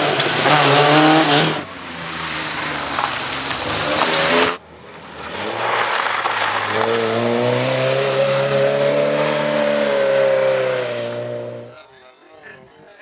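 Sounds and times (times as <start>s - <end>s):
rally car engine accelerating: 0.0s - 11.8s.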